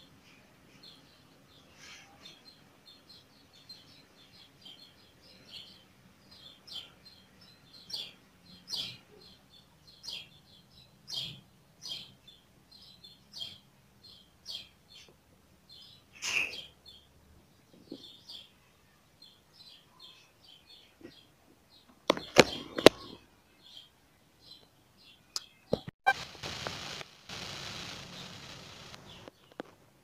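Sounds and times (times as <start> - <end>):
small birds chirping: 0.0 - 25.9, 27.4 - 29.7.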